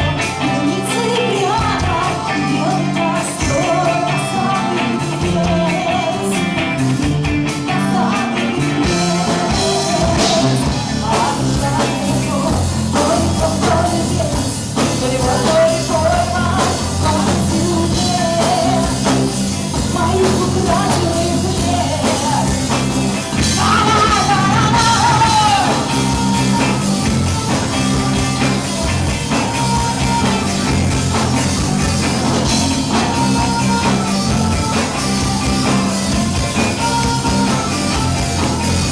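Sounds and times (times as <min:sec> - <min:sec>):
instrumental backing with beat: 0:00.0 - 0:38.9
person singing: 0:00.0 - 0:38.9.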